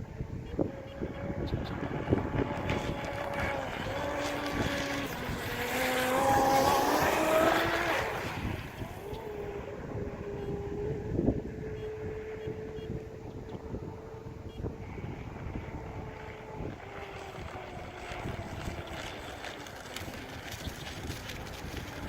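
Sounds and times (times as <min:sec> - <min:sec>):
wind noise on microphone: 0:00.0 - 0:22.0
electric motor whining: 0:00.2 - 0:22.0.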